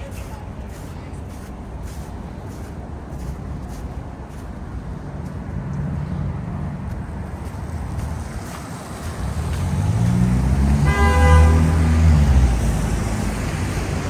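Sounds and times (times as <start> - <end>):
passing vehicle engine hum: 0.0 - 14.0
traffic rumble: 0.0 - 14.0.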